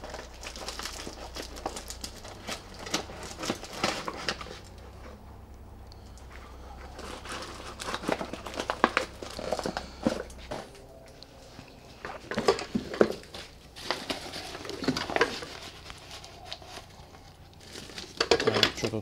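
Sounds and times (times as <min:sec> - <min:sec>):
plastic bag crinkling: 0:00.0 - 0:04.9, 0:06.1 - 0:19.0.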